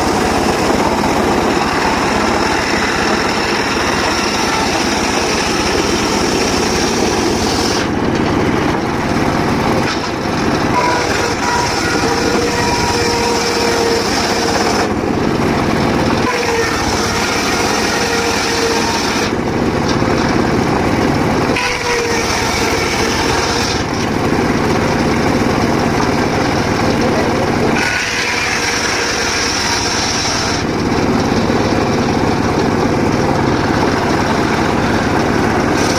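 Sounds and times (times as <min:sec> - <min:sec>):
circular saw cutting wood: 0:00.0 - 0:35.9.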